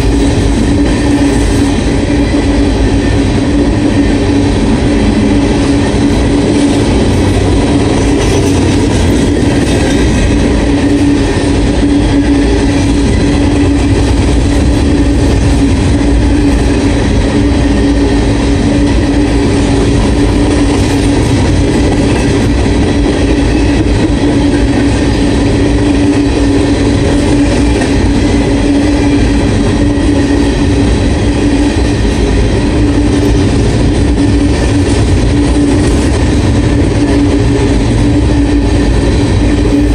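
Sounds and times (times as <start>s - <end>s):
constant hum: 0.0s - 39.9s
train wheels rolling on rail: 0.0s - 39.9s.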